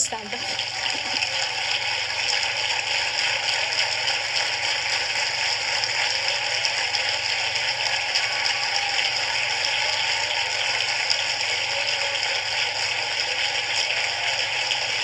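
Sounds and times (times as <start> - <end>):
large audience applauding: 0.0 - 15.0.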